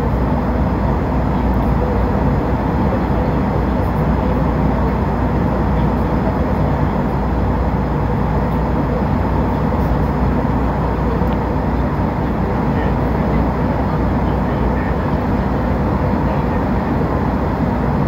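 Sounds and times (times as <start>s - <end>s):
airliner cabin engine rush: 0.0s - 18.0s.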